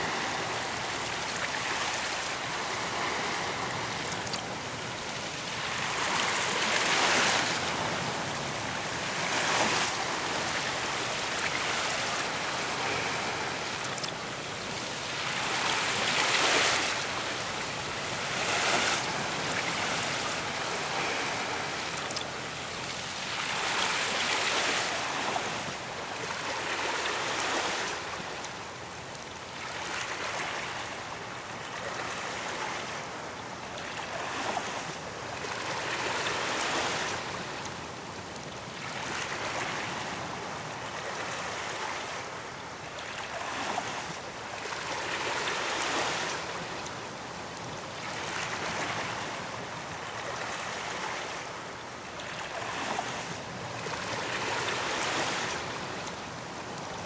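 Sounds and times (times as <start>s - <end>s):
sea waves breaking on beach: 0.0s - 57.0s.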